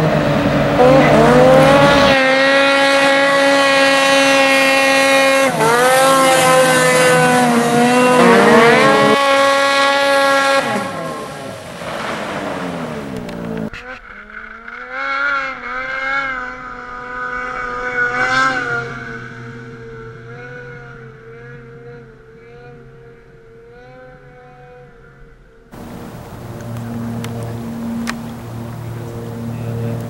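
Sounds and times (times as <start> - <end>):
snowmobile engine: 0.0 - 25.2, 25.8 - 30.0.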